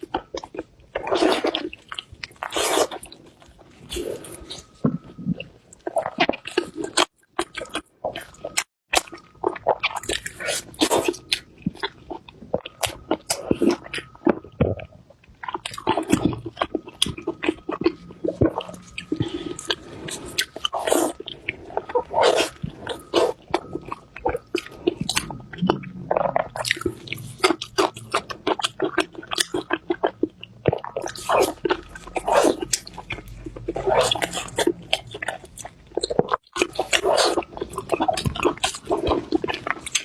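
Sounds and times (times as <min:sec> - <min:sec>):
close crunchy chewing: 0:00.0 - 0:40.0.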